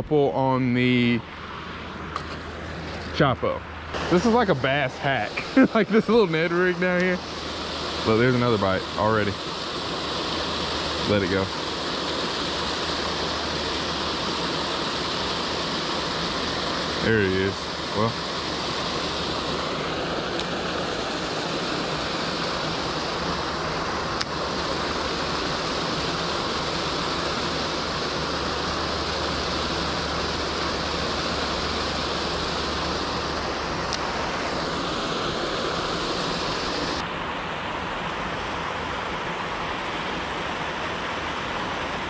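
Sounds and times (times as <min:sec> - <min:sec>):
waterfall rushing over rocks: 0:04.0 - 0:42.0.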